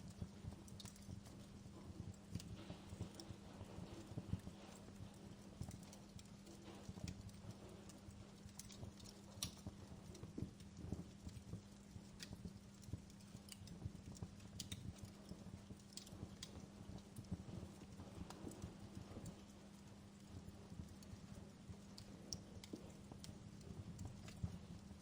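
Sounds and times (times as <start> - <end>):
low rumble of burning: 0.0 - 25.0
wood fire pops and snaps: 0.0 - 25.0.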